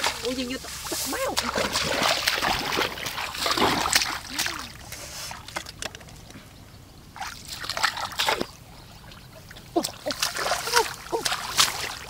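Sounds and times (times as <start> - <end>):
water sloshing and splashing: 0.0 - 6.2, 7.1 - 12.0.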